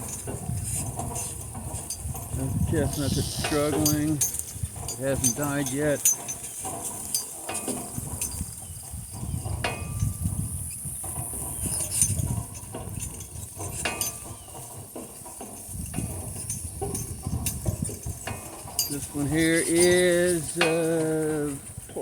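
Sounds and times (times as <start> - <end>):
donkey hoof steps: 0.0 - 22.0
harness clicks and knocks: 0.0 - 22.0.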